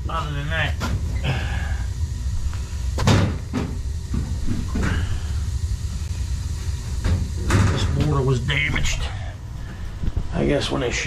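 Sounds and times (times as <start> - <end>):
gas boiler rumbling: 0.0 - 11.0.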